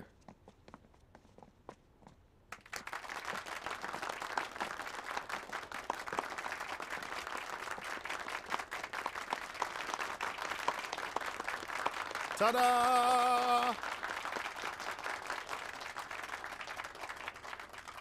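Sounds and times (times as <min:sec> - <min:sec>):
people applauding: 0:02.5 - 0:18.0.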